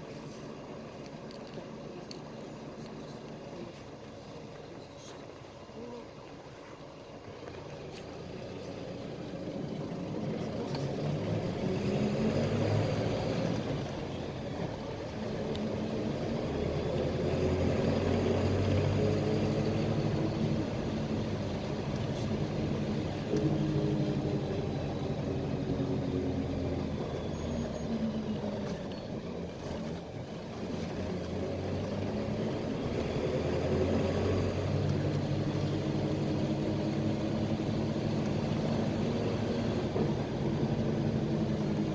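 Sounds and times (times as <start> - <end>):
bus engine running: 0.0 - 41.9
road noise: 0.0 - 41.9.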